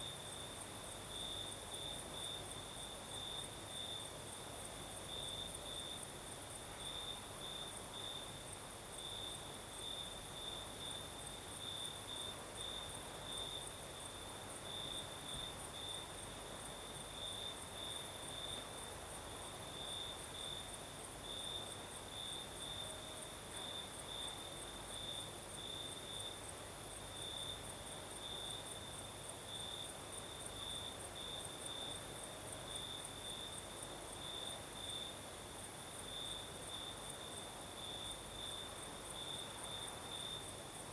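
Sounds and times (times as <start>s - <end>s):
crickets chirping: 0.0s - 40.9s
faint breeze hiss: 0.0s - 40.9s.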